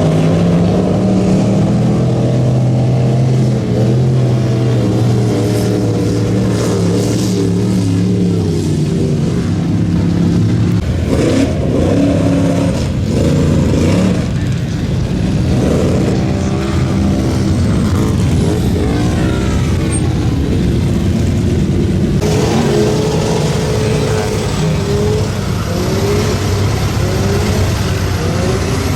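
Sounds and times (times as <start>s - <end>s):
truck engine revving hard: 0.0s - 28.9s.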